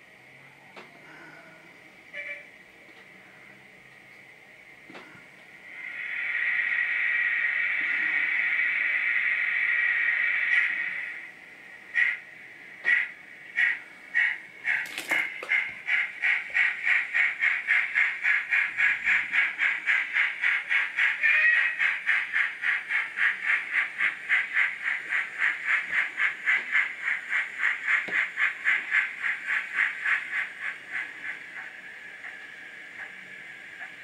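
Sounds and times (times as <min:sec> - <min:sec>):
model steam locomotive chuffing: 0:01.5 - 0:34.0.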